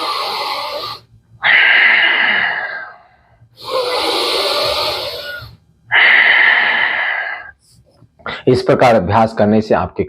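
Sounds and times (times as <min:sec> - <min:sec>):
person breathing deeply: 0:00.0 - 0:08.4.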